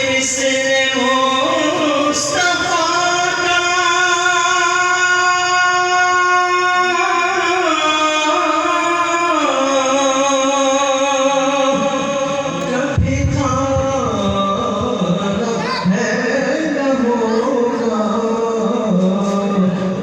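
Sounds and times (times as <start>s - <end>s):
person singing devotional song: 0.0s - 20.0s.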